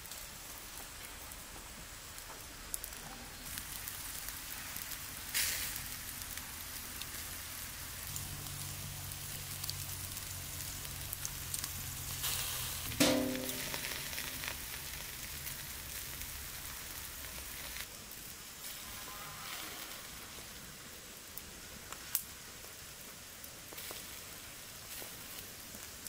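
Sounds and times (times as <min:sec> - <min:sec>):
charcoal embers crackling and hissing: 0:00.0 - 0:26.0.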